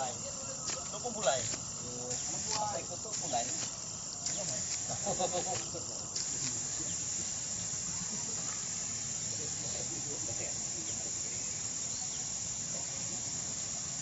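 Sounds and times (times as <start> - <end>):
faint voices: 0.0 - 14.0
insects chirring: 0.0 - 14.0.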